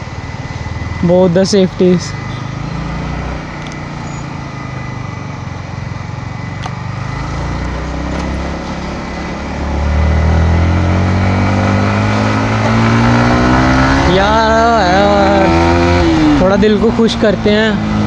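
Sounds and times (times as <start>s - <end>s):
motorcycle engine while riding: 0.0s - 18.0s.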